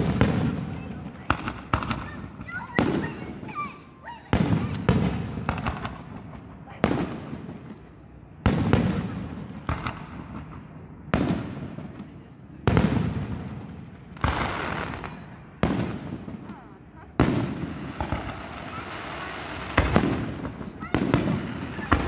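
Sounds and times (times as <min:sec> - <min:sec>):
fireworks shells booming: 0:00.0 - 0:22.0.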